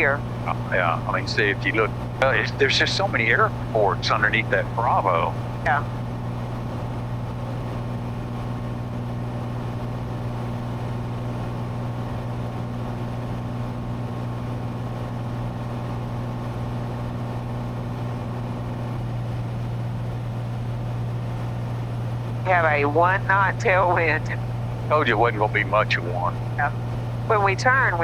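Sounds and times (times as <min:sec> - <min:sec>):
aircraft cabin engine drone: 0:00.0 - 0:28.0.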